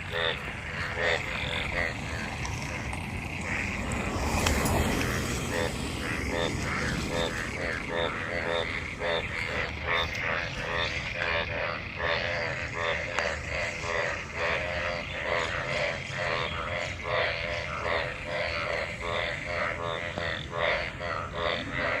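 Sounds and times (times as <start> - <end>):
frogs croaking in chorus: 0.0 - 22.0.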